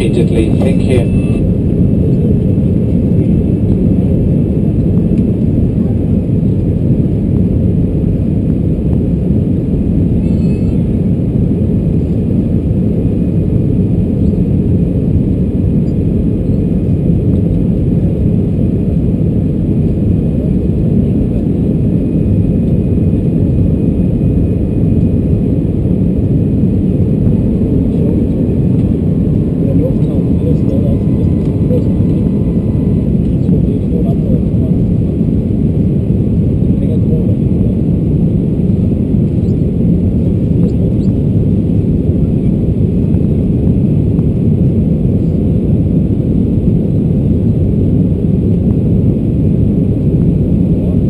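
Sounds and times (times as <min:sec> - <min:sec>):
airplane cabin low rumble: 0:00.0 - 0:51.0
faint steady whine: 0:00.0 - 0:51.0.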